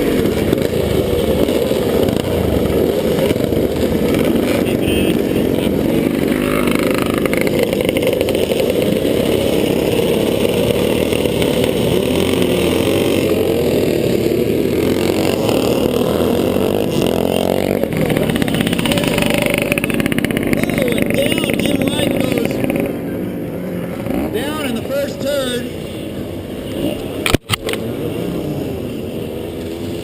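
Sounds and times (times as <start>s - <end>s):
motorcycle engine running hard: 0.0s - 30.0s.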